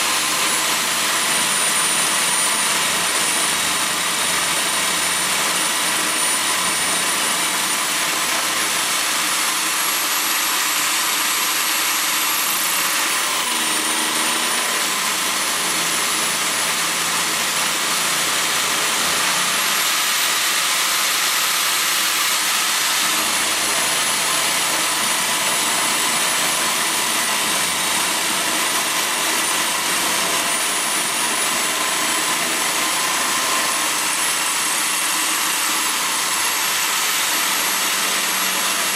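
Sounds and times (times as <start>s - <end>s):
end mill cutting aluminium: 0.0s - 38.9s.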